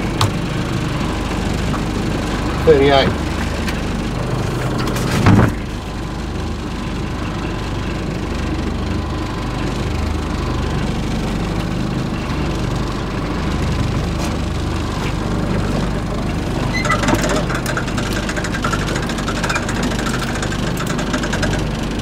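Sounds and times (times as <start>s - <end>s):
outboard motor idling: 0.0s - 22.0s.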